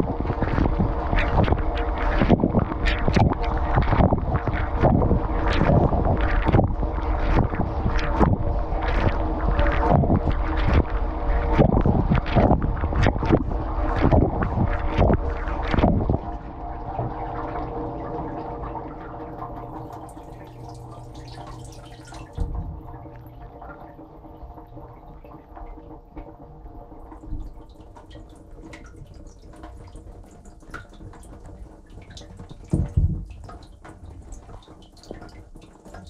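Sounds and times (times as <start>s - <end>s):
dishwasher pump hum: 0.0s - 36.0s
water dripping and trickling: 0.0s - 36.0s.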